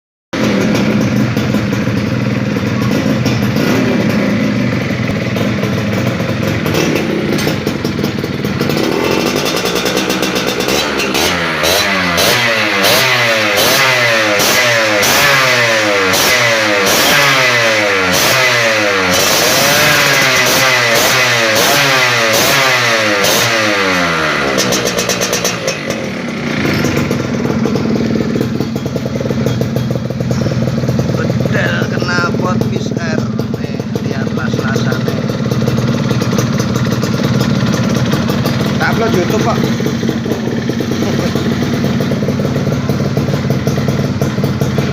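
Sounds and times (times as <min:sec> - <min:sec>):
two-stroke engine idling and revving: 0:00.4 - 0:44.9.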